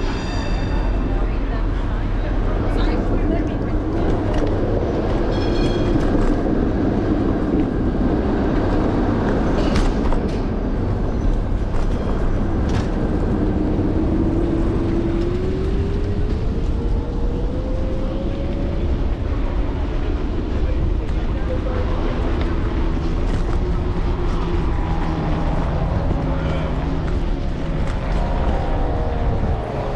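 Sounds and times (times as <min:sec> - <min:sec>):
rumble of wheels and wind: 0:00.0 - 0:29.9.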